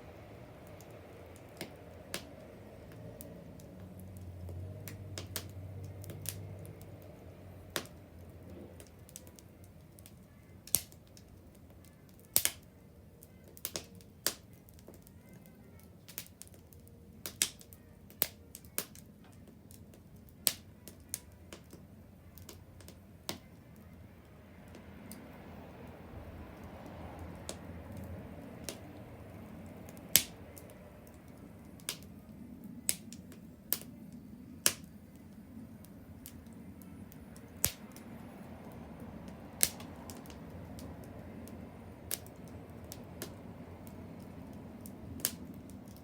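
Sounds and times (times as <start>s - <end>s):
low steady hiss: 0.0s - 46.0s
wood fire crackling: 0.0s - 46.0s.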